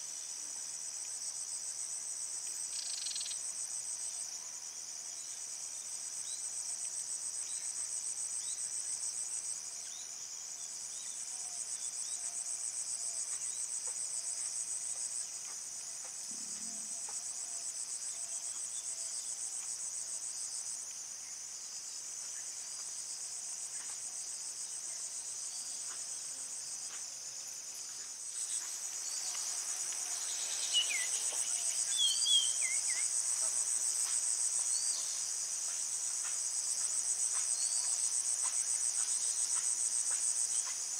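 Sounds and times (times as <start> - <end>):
crickets trilling: 0.8 - 4.0, 7.3 - 40.9.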